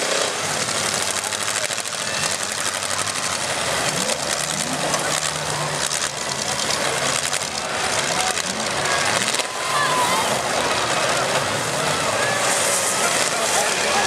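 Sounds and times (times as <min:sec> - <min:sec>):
car engines revving hard: 0:00.0 - 0:14.0.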